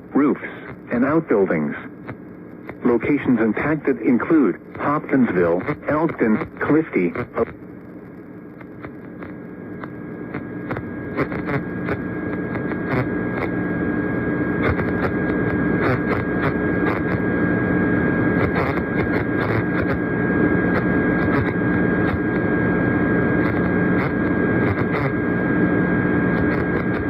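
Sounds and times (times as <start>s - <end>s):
constant hum: 0.0s - 27.0s
radio static hiss: 0.0s - 27.0s
static crackles: 0.0s - 27.0s
thin steady whine: 0.0s - 27.0s.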